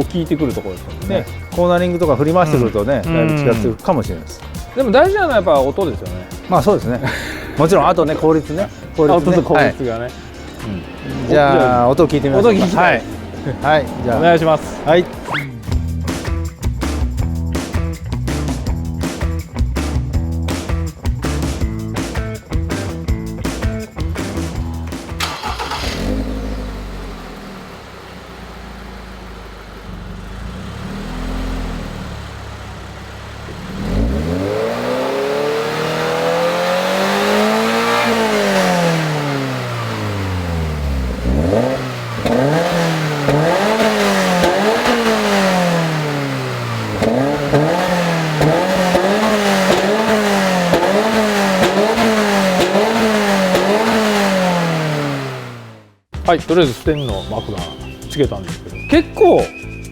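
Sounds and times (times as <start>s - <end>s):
car engine revving: 0.0s - 56.1s.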